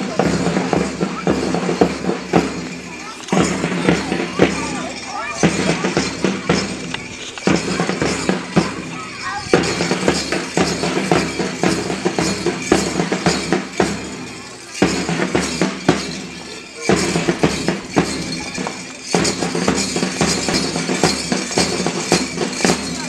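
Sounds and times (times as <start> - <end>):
march music with percussive beat: 0.0 - 23.0.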